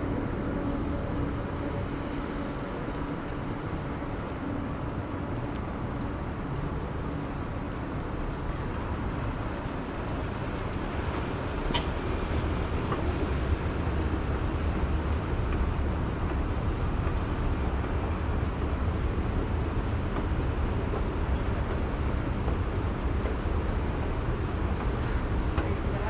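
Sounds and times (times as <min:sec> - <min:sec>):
distant traffic hum: 0:00.0 - 0:26.0.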